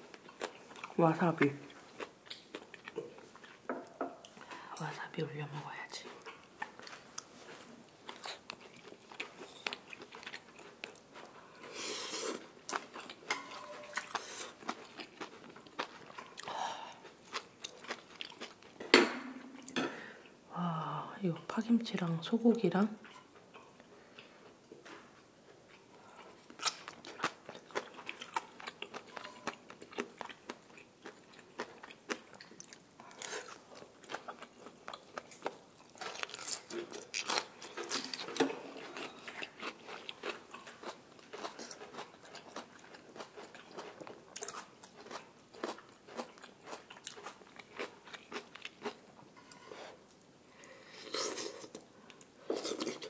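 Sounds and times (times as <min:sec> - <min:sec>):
chewing with mouth clicks: 0:00.0 - 0:01.0, 0:01.7 - 0:03.6, 0:06.0 - 0:18.8, 0:25.7 - 0:53.0.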